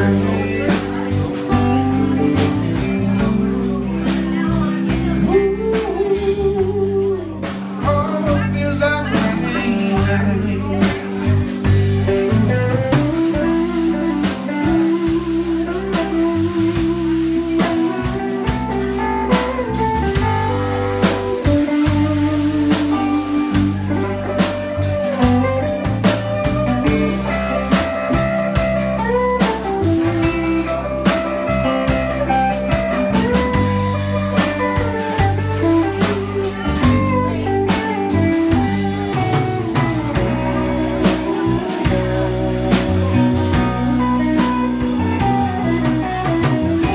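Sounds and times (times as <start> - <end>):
bass guitar: 0.0 - 46.9
drum kit beat: 0.0 - 46.9
electric guitar lead lines: 0.0 - 46.9.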